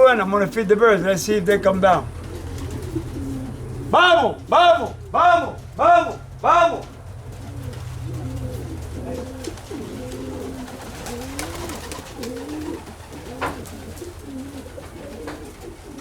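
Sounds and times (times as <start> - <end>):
pigeons cooing: 1.0 - 16.0.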